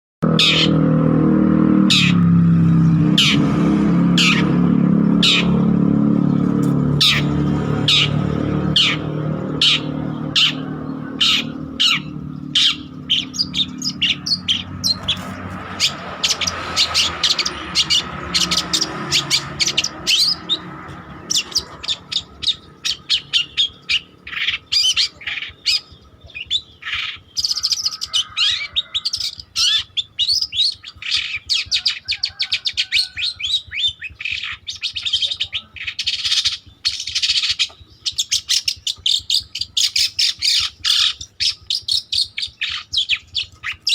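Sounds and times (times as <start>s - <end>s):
bird chirping and chattering: 0.2s - 0.8s, 1.9s - 3.6s, 4.2s - 43.9s.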